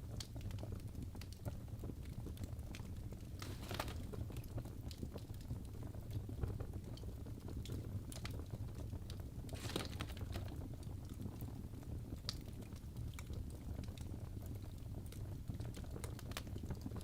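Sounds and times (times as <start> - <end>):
burning logs crackling and popping: 0.0 - 17.0
fire flames rumbling: 0.9 - 17.0.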